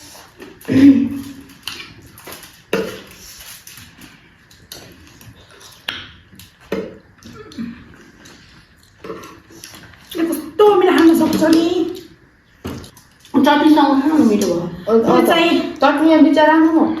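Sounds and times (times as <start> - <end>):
people chewing: 0.0 - 15.8.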